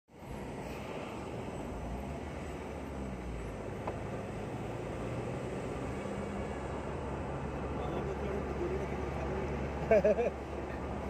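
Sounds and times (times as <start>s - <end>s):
car engine and tyre noise: 0.1s - 11.0s.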